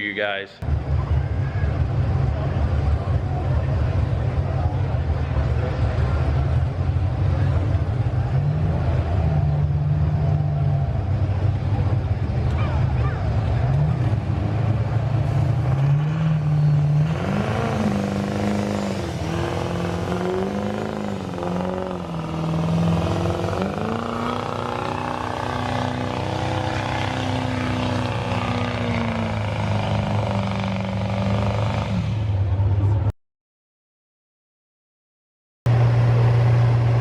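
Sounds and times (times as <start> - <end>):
diesel truck engine under load: 0.6 - 33.1, 35.7 - 37.0.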